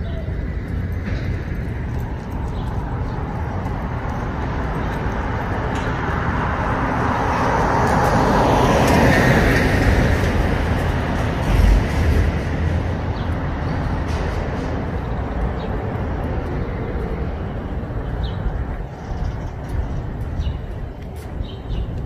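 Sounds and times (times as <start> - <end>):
vehicle passing: 0.0 - 22.0.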